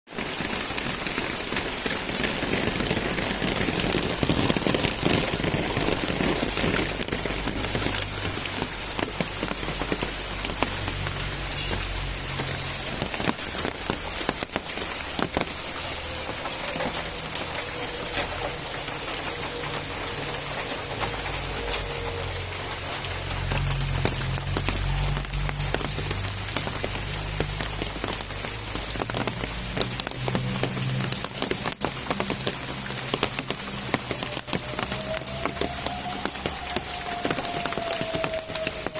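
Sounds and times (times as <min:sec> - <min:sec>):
heavy rain hiss: 0:00.1 - 0:38.9.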